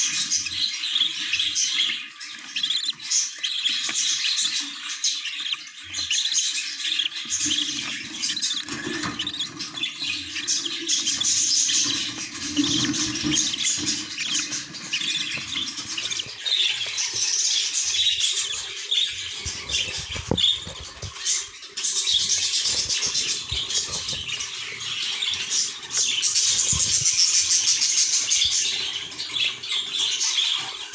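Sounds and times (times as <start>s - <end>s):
budgerigar chicks cheeping: 0.0s - 30.9s.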